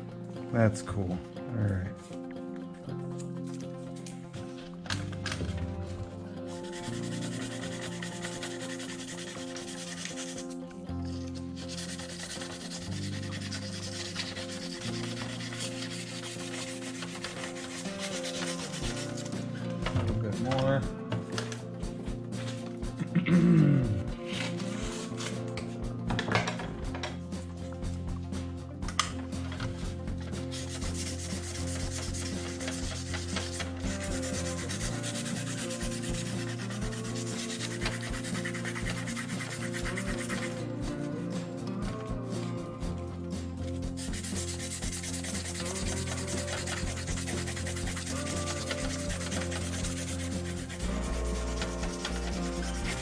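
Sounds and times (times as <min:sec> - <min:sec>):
background music with low notes: 0:00.0 - 0:53.0
sandpaper rubbing in scratchy strokes: 0:04.0 - 0:23.1, 0:23.9 - 0:42.1, 0:43.6 - 0:53.0.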